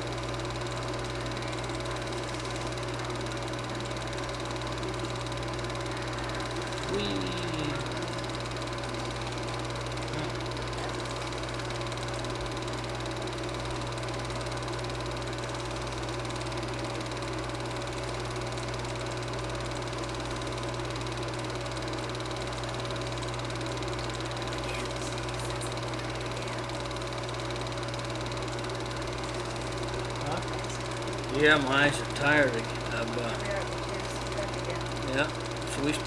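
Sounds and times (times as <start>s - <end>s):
film projector motor whirring: 0.0s - 36.0s.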